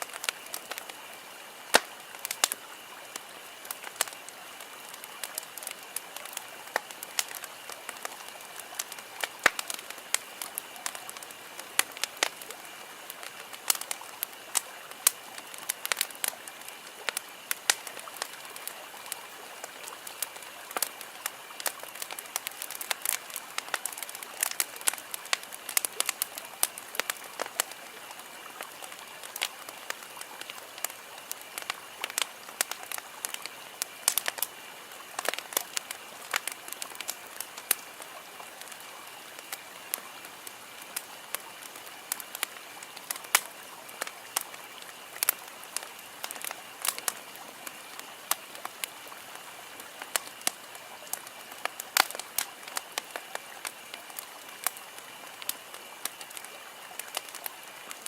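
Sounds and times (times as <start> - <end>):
campfire crackling and popping: 0.0 - 58.0
soft steady hiss: 0.0 - 58.0.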